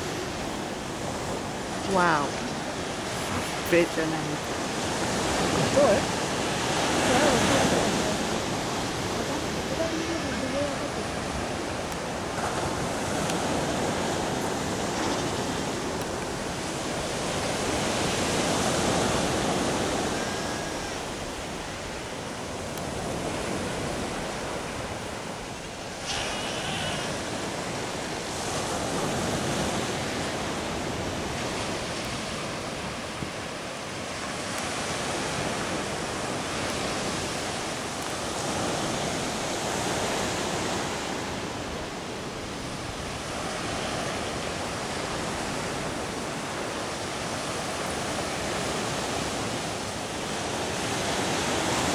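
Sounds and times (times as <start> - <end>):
ocean surf washing onto beach: 0.0 - 51.9
wind on microphone: 0.0 - 51.9.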